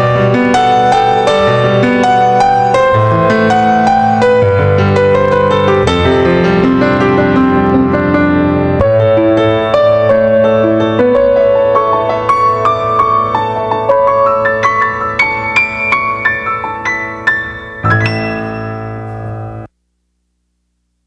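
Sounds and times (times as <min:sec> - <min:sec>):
piano music: 0:00.0 - 0:19.7.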